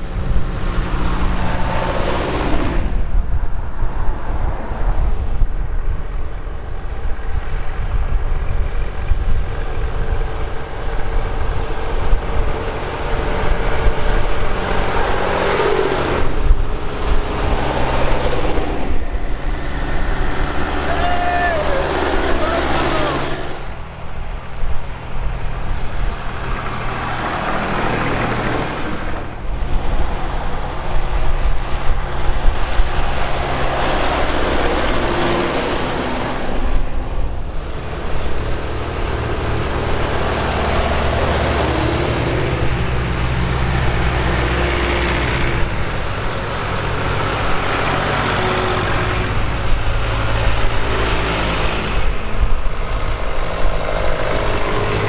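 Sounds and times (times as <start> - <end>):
road noise: 0.0 - 55.0
tractor engines running: 0.0 - 55.0
wind noise: 0.0 - 55.0.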